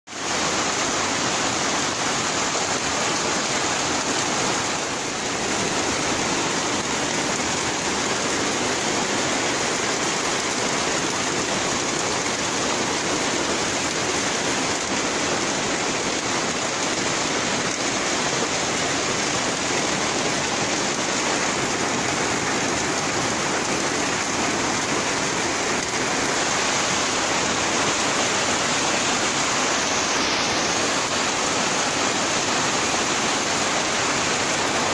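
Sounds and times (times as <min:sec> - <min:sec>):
heavy rain on metal roofs: 0:00.1 - 0:34.9.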